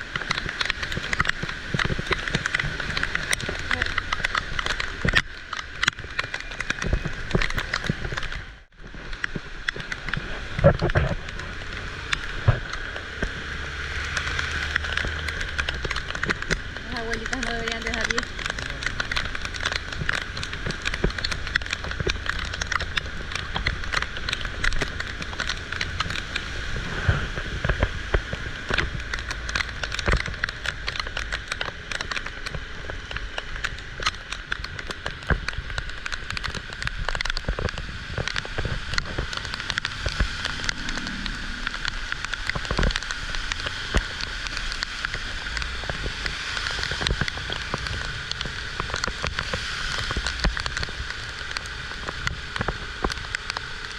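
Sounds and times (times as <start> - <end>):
low rumble: 0.0 - 53.3
heavy rain on hard surfaces: 0.0 - 53.9.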